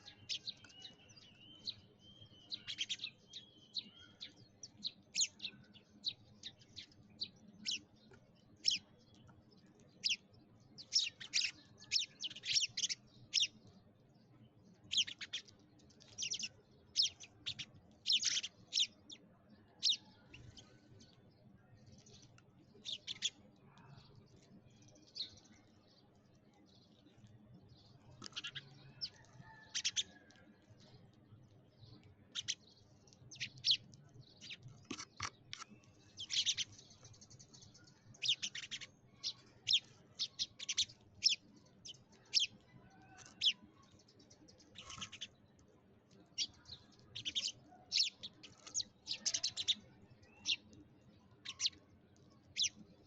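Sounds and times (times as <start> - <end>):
sparrows chirping: 0.0 - 53.0.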